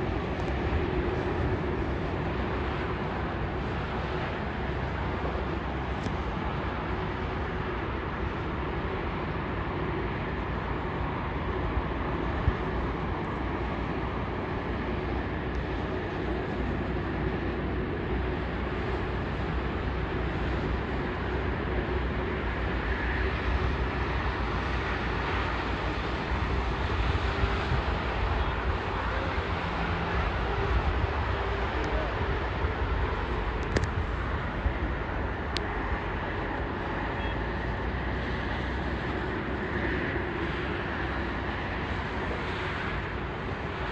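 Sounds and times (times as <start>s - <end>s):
jet engines rushing: 0.0s - 43.9s.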